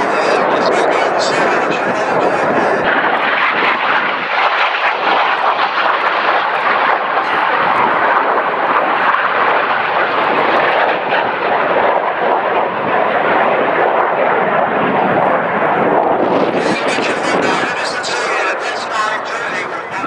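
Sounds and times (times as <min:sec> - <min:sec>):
jets flying past overhead: 0:00.0 - 0:20.0.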